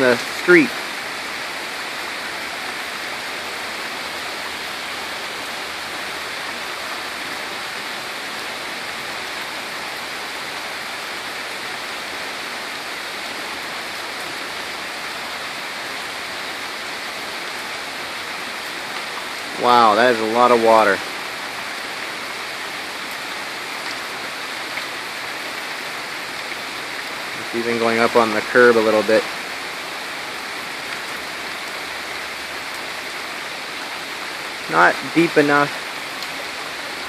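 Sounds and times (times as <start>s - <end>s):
heavy rain hissing: 0.0s - 37.0s.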